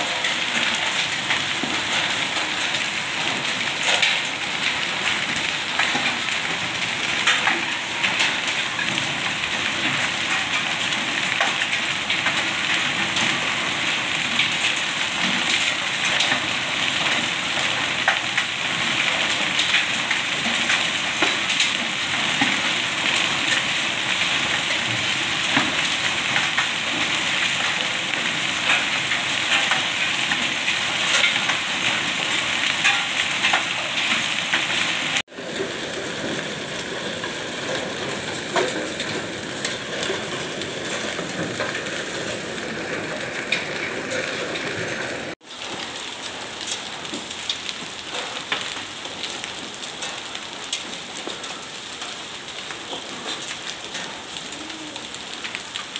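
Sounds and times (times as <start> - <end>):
hail and rain on stone paving: 0.0 - 55.9.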